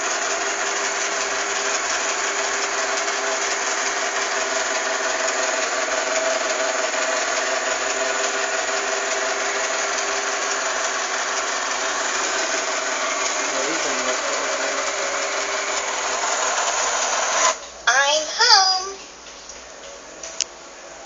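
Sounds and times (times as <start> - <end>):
robot vacuum motor whir: 0.0 - 17.6.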